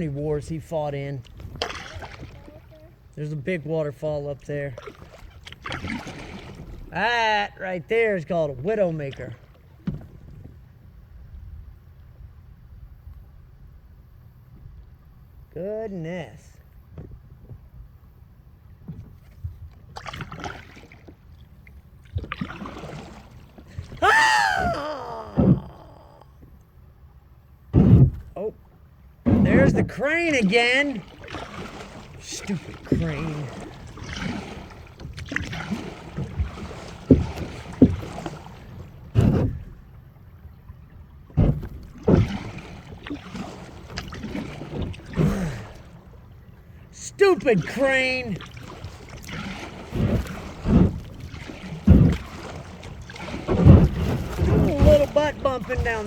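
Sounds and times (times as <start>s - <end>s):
kayak paddle splashing water: 0.0s - 11.6s, 18.7s - 26.3s, 29.2s - 56.0s.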